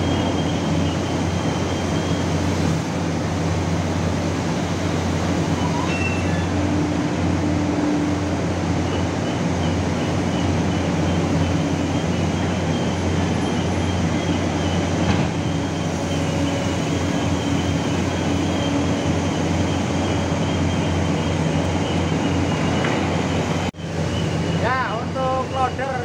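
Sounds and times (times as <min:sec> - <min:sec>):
heavy diesel machinery drone: 0:00.0 - 0:26.0.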